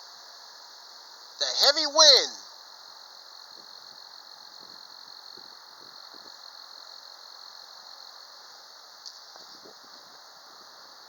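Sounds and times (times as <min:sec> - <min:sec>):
high-pitched insect chorus: 0:00.0 - 0:11.0
wind through trees: 0:00.0 - 0:11.0.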